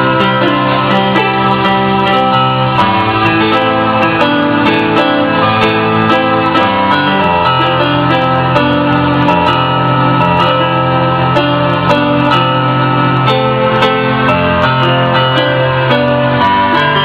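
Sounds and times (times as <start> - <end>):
electronic keyboard music: 0.0 - 17.0.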